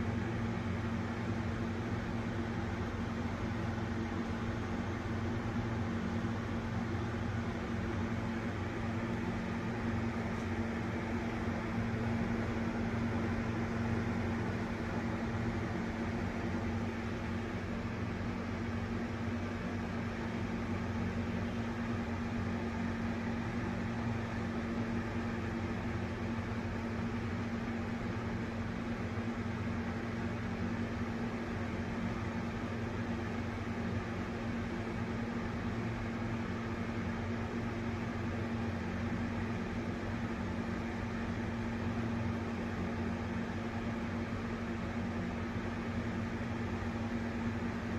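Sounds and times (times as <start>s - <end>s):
exhaust fan motor hum: 0.0s - 47.9s.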